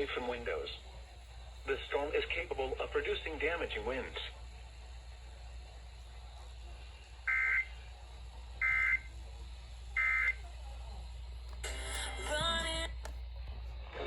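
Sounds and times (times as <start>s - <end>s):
static noise with wavering tones: 0.0s - 14.0s.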